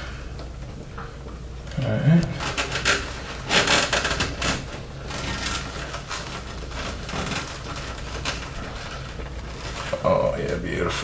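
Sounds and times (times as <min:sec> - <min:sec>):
steady low hum: 0:00.0 - 0:11.0
rustling and taps of cables: 0:00.4 - 0:10.6.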